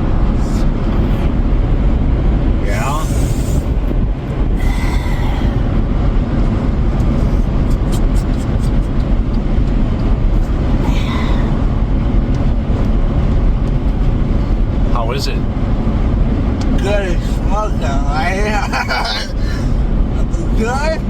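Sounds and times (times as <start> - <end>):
vehicle rumbling in motion: 0.0 - 21.0.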